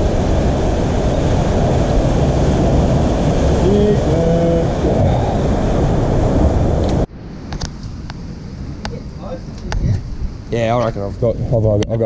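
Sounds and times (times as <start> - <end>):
ocean surf rushing over rocks: 0.0 - 11.6
wind on microphone: 0.0 - 12.0.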